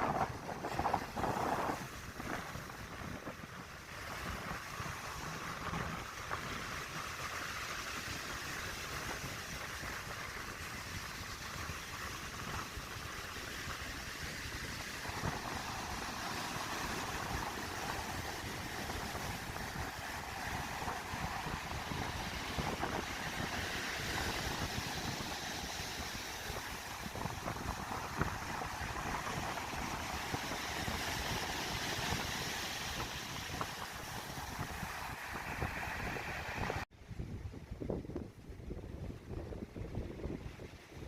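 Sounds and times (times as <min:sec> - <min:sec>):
sea surf breaking: 0:00.0 - 0:36.9
wind on microphone: 0:00.0 - 0:41.0.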